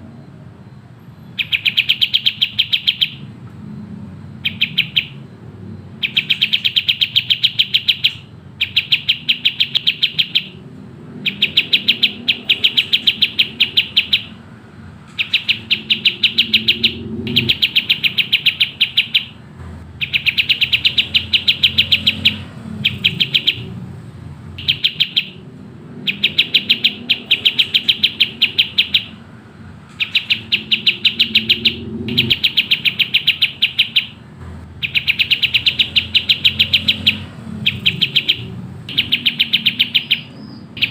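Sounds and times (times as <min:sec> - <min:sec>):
bird singing rapid high chirps: 0:01.2 - 0:40.9.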